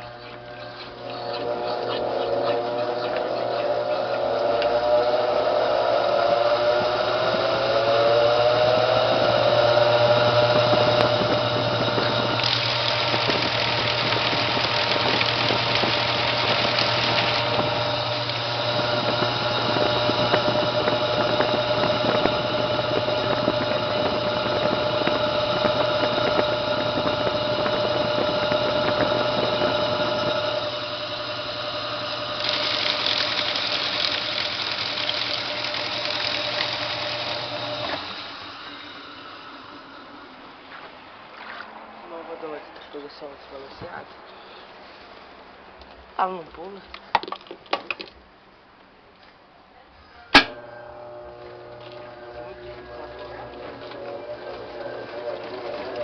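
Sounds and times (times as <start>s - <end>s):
washing machine spinning: 0.0s - 42.6s, 50.4s - 56.0s.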